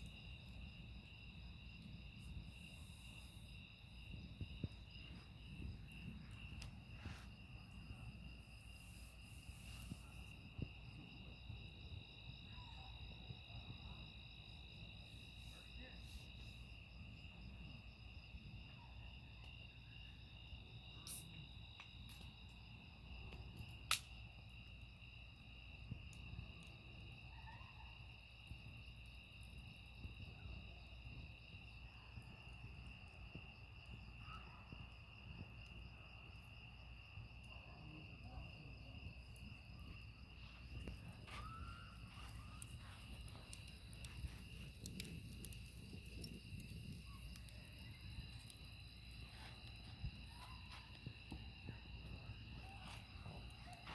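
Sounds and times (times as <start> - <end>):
crickets chirring: 0.0 - 53.9.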